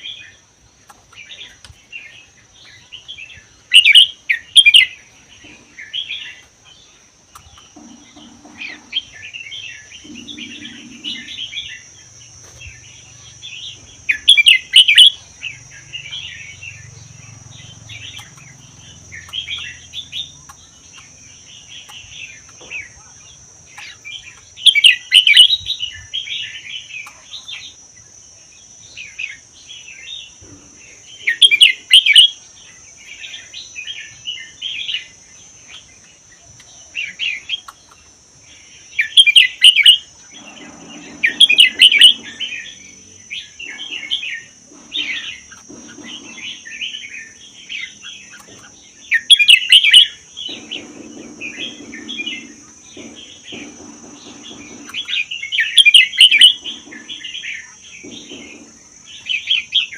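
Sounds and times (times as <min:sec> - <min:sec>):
bird chirping: 0:00.0 - 0:59.9
high-pitched whine: 0:02.6 - 0:35.9, 0:36.8 - 0:59.9.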